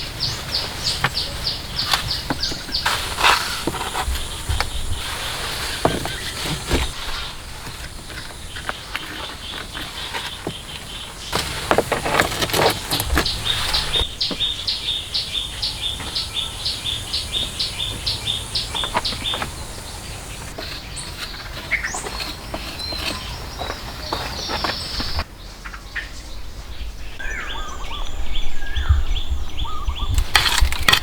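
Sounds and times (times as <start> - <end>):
knocks and scrapes: 0.0 - 14.7, 15.7 - 25.3, 30.2 - 31.0
outdoor ambience: 0.0 - 31.0.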